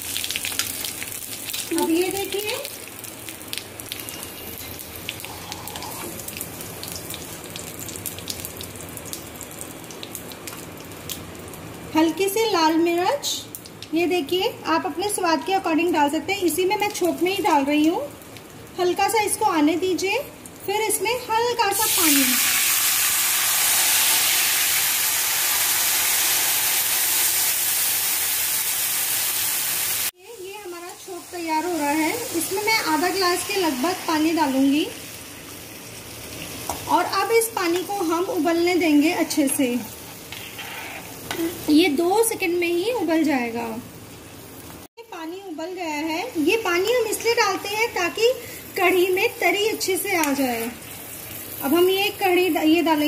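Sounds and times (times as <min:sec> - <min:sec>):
spices sizzling in hot oil: 0:00.0 - 0:53.0.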